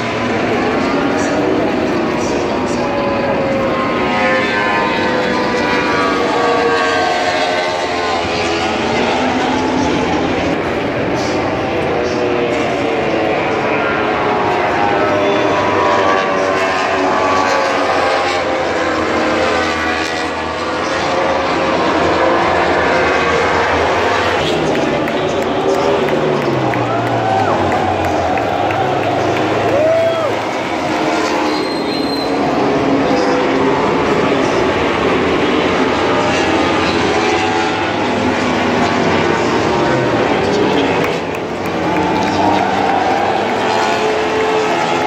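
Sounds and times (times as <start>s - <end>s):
racing motorcycle engines: 0.0s - 45.0s.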